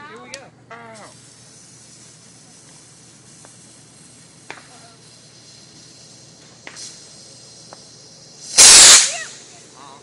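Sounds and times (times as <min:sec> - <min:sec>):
fuse crackling: 0:00.0 - 0:10.0
firework fuse hissing: 0:00.8 - 0:10.0.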